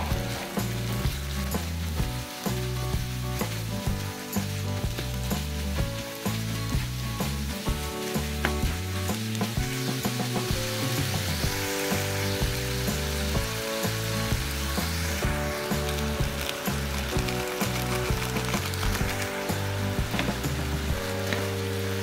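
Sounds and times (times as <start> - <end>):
background music: 0.0 - 22.0
chicken and onion sizzling in pan: 0.0 - 22.0.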